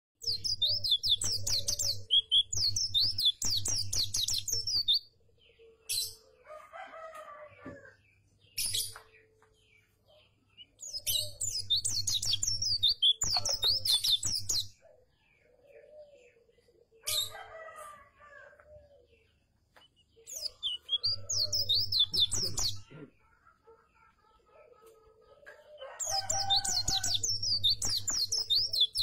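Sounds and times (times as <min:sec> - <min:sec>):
bird twittering song: 0:00.2 - 0:17.8, 0:18.5 - 0:23.3, 0:25.3 - 0:29.0
sharp bird calls: 0:00.2 - 0:24.7, 0:25.4 - 0:29.0.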